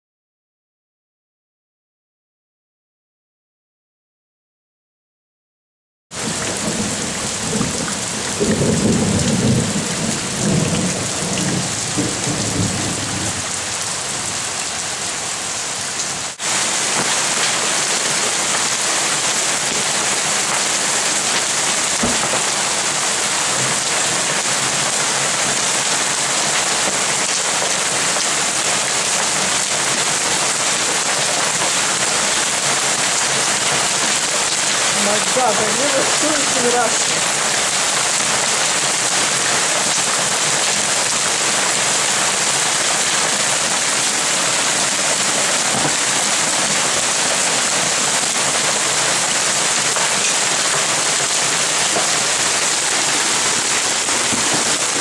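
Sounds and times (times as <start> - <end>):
hail and heavy rain pelting: 6.2 - 55.0.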